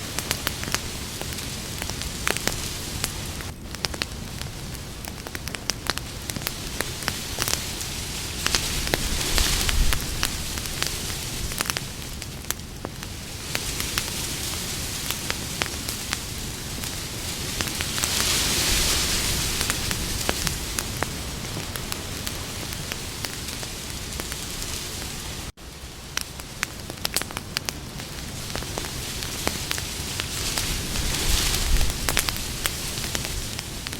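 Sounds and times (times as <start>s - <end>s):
campfire hissing and crackling: 0.0s - 33.9s.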